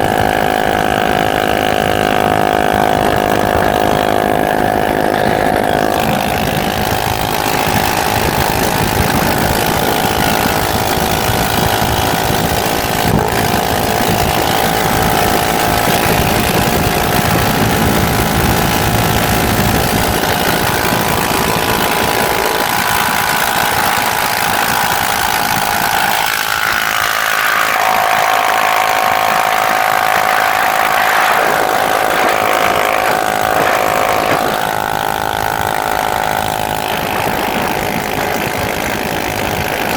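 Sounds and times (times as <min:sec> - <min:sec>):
constant rushing noise: 0:00.0 - 0:39.9
motorcycle engine running: 0:00.0 - 0:39.9.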